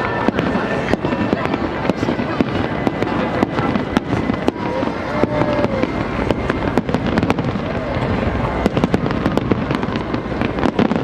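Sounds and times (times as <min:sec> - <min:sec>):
continuous din: 0:00.0 - 0:11.0
fireworks bangs and crackles: 0:00.0 - 0:11.0.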